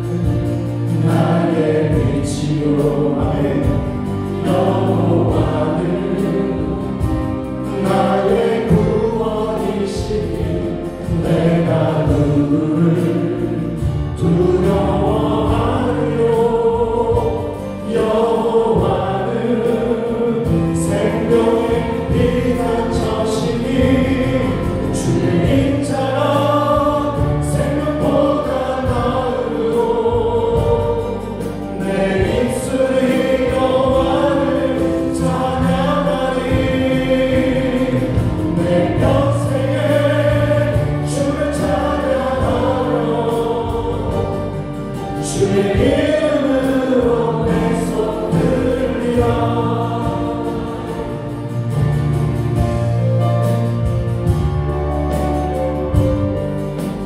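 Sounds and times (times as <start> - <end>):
band with keyboards bass and drums: 0.0 - 57.0
congregation singing: 0.0 - 57.0.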